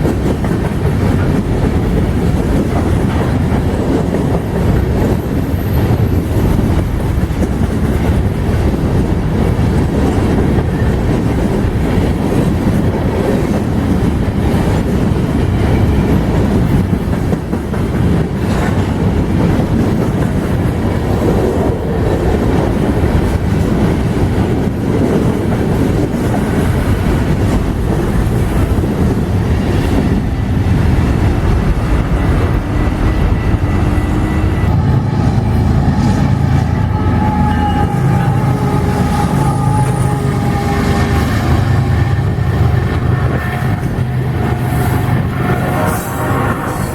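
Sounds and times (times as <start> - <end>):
freight train rumbling past: 0.0 - 46.9
wheels clacking on rail: 0.0 - 46.9.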